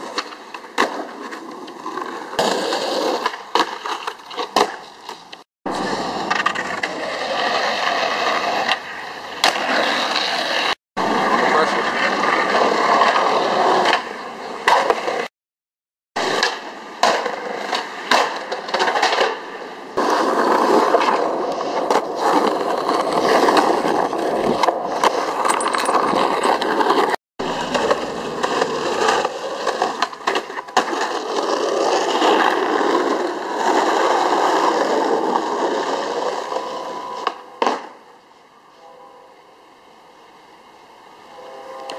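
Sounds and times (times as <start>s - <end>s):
skateboard clacks: 0.0s - 10.8s, 11.4s - 15.3s, 16.2s - 38.0s
skateboard wheels on asphalt: 0.0s - 15.3s, 16.2s - 38.7s.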